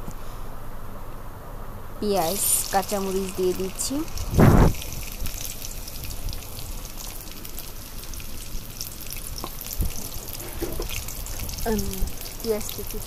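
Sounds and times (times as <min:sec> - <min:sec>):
crackle of frying: 0:02.0 - 0:13.0
onions sizzling in hot oil: 0:02.0 - 0:13.0.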